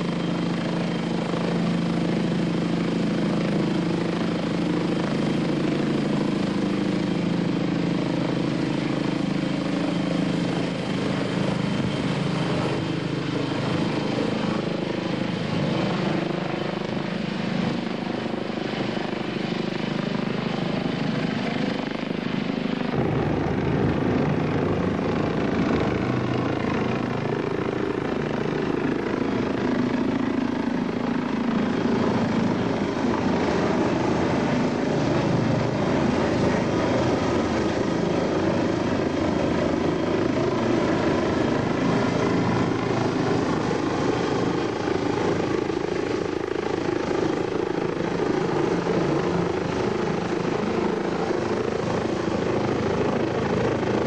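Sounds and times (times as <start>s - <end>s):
helicopter running overhead: 0.0s - 54.0s.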